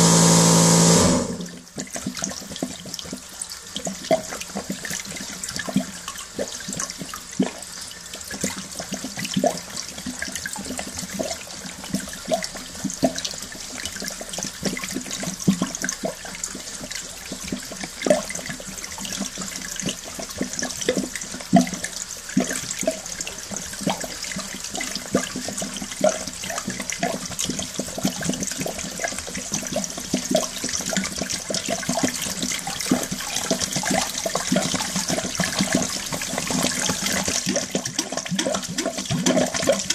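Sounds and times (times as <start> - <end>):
water gushing from hose into toilet: 0.0 - 39.9
water splashing and gurgling: 0.1 - 39.9.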